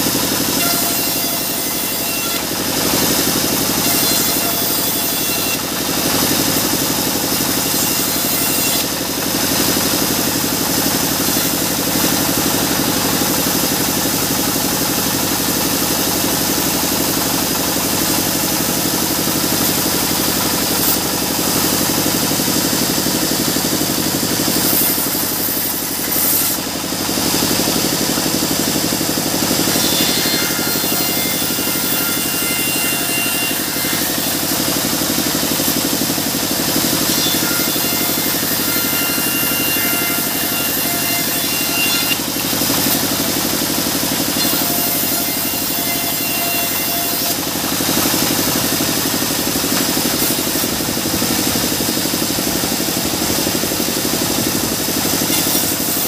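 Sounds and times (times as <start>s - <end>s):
band sawmill cutting boards: 0.0s - 56.0s.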